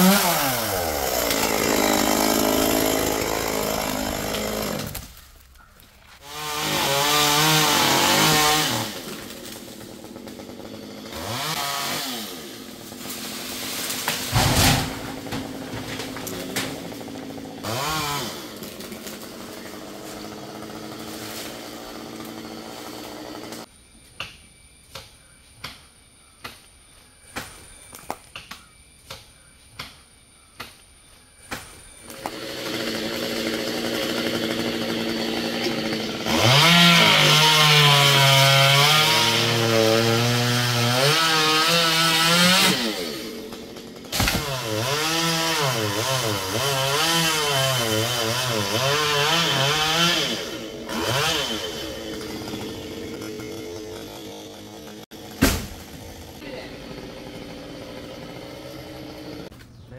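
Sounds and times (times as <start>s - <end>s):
chainsaw cutting wood: 0.0s - 5.2s, 6.1s - 23.7s, 31.5s - 59.5s.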